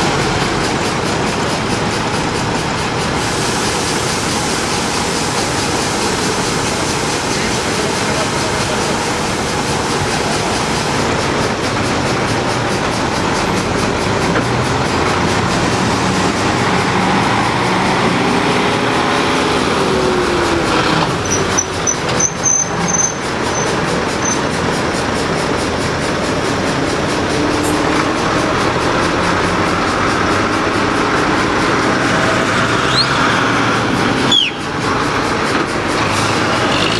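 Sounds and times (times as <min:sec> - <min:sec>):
road noise: 0:00.0 - 0:36.9
truck engines running: 0:00.0 - 0:36.9.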